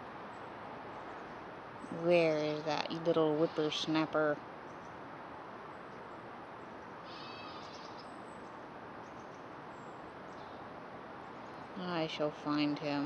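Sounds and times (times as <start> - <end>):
soft outdoor hiss: 0.0 - 13.0.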